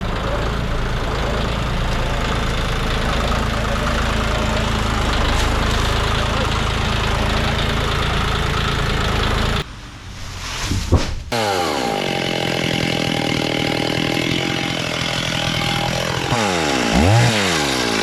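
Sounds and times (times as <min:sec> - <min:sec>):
engine running: 0:00.0 - 0:10.4, 0:11.3 - 0:18.0.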